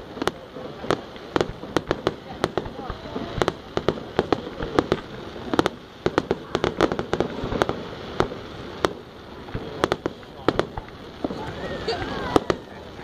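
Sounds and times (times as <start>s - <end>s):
fireworks bangs and crackling pops: 0.0s - 13.0s.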